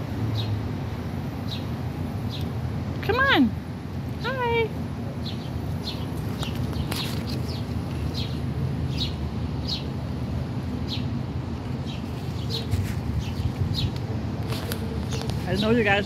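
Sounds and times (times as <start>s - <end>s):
small birds chirping: 0.3s - 0.6s, 1.3s - 2.6s, 4.1s - 16.0s.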